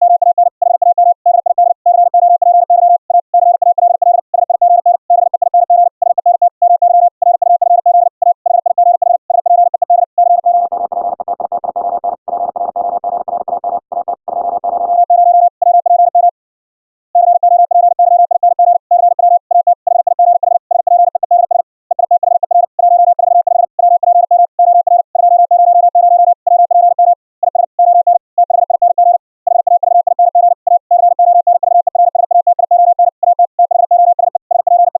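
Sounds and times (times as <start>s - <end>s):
rapid morse code tone: 0.0s - 16.4s, 17.2s - 34.9s.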